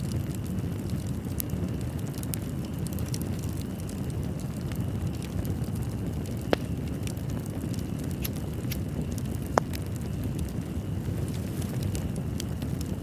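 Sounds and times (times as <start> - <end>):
sharp fire pops: 0.0 - 13.0
wood fire crackling: 0.0 - 13.0.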